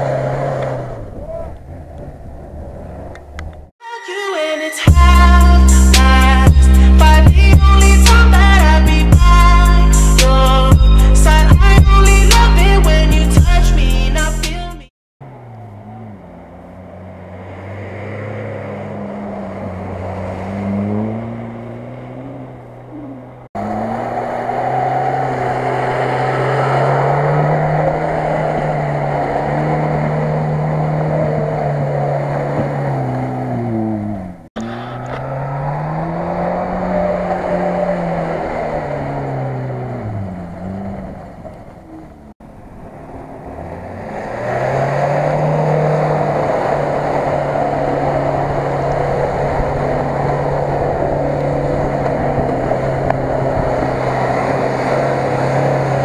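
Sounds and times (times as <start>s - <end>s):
off-road engines revving: 0.0s - 3.7s, 5.0s - 13.2s, 15.2s - 56.0s.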